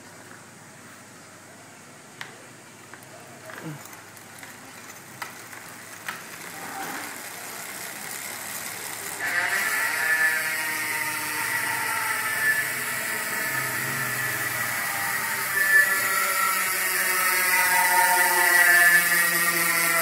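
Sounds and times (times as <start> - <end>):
bicycle hub freewheeling buzz: 2.9 - 20.0.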